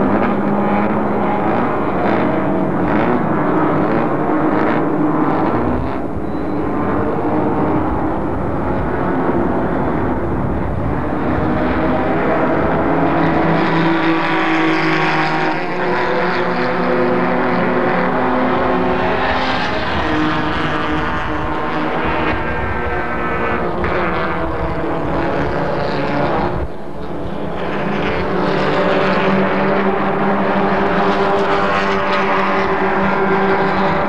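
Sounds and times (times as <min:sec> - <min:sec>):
racing car engines: 0:00.0 - 0:34.0.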